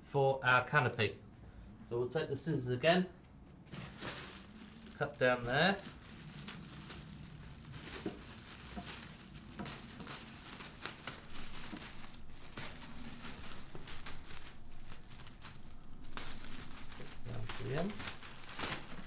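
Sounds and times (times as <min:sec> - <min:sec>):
plastic sleeve crinkling: 0:03.6 - 0:19.0.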